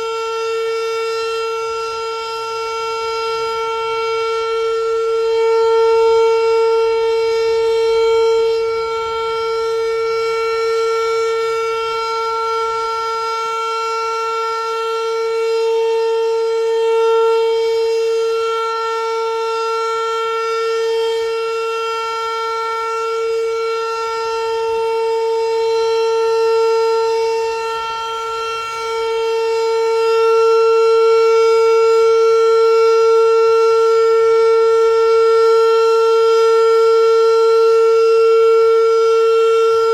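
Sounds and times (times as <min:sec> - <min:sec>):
warning siren wail: 0:00.0 - 0:39.9.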